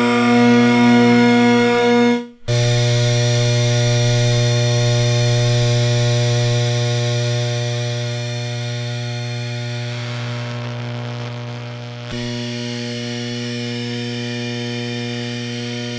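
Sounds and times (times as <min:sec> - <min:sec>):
buzzy electrical power hum: 0:00.0 - 0:15.9.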